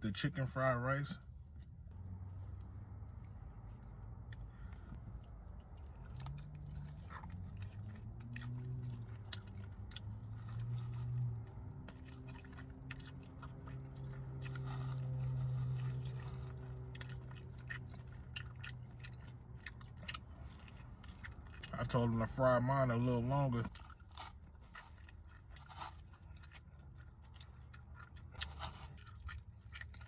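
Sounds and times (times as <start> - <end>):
low steady hum: 0.0 - 30.0
chewing crunchy chicken wings: 0.9 - 30.0.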